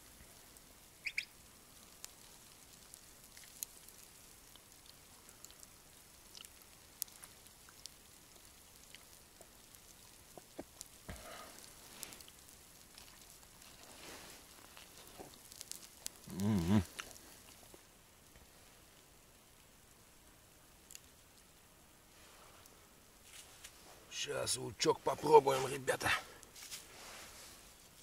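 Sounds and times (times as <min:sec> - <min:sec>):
faint ticks and crackles: 0:00.0 - 0:28.0.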